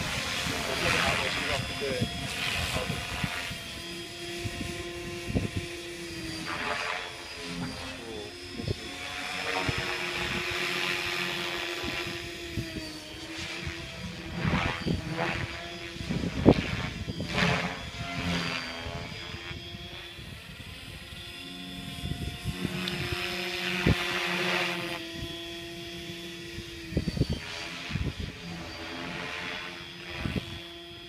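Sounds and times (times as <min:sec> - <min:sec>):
rc helicopter rotor whine: 0:00.0 - 0:31.0.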